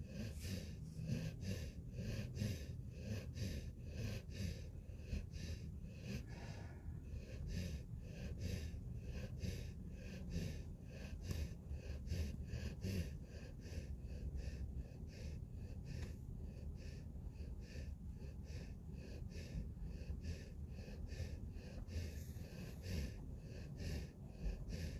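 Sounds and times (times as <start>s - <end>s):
puppy snoring: 0.0s - 24.9s.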